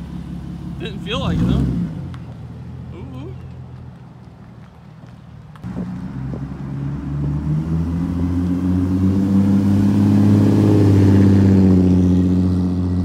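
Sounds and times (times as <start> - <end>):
truck engine deep exhaust note: 0.0 - 3.8, 5.6 - 13.0.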